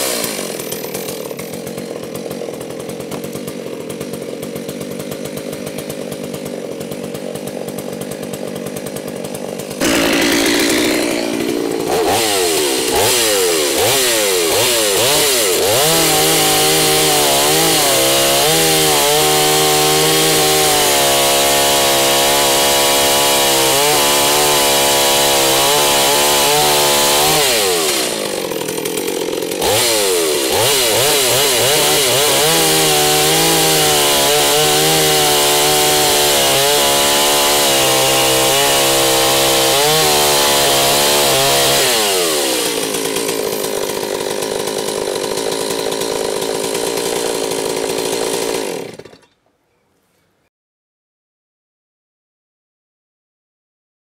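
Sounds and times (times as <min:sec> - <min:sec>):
chainsaw cutting log: 0:00.0 - 0:49.4.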